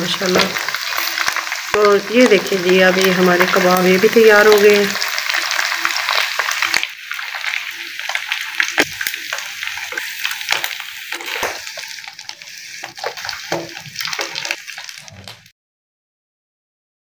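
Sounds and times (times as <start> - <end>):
food frying in hot oil: 0.0 - 15.5.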